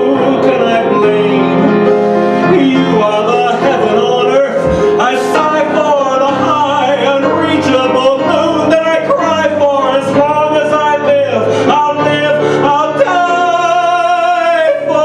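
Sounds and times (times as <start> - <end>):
man singing: 0.0 - 15.0
piano accompaniment: 0.0 - 15.0.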